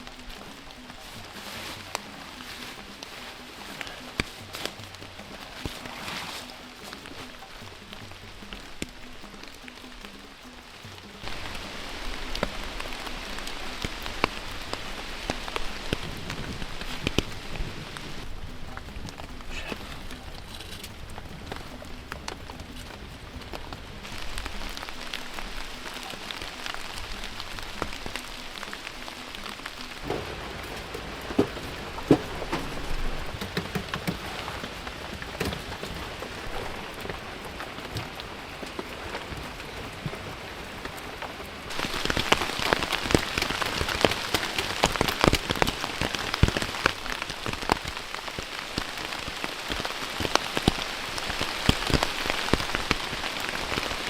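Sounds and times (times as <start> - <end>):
rain falling: 0.0 - 54.0
raindrops striking close by: 0.0 - 54.0.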